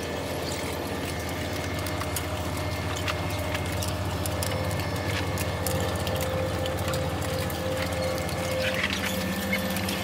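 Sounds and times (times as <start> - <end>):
low hum of ship engines: 0.0 - 10.0.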